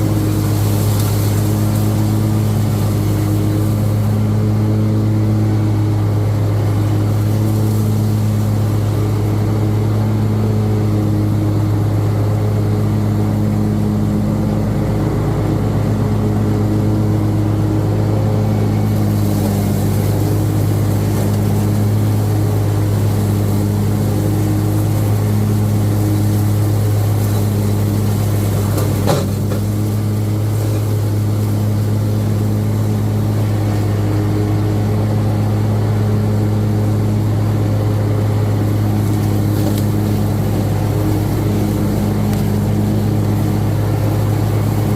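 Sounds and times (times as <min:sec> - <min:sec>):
riding lawn mower engine: 0:00.0 - 0:44.9.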